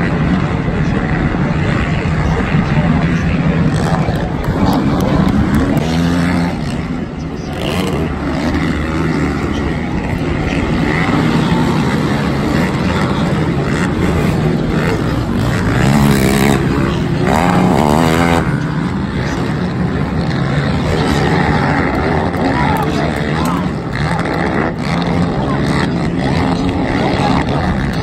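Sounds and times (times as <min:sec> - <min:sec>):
racing quad engines revving: 0:00.0 - 0:28.0.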